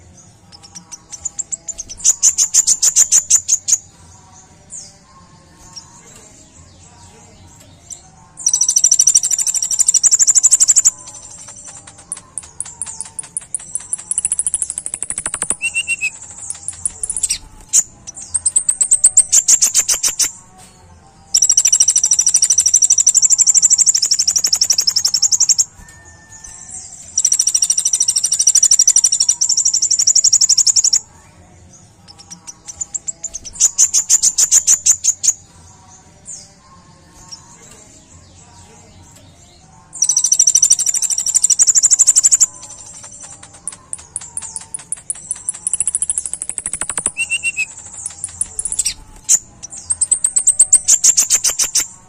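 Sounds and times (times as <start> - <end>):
sunbird singing high rapid trills: 0.0 - 20.4, 21.2 - 52.0.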